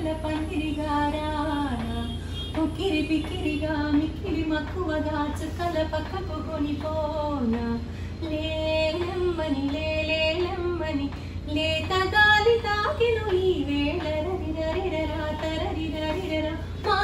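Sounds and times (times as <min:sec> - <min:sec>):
woman singing slow melody: 0:00.0 - 0:17.0.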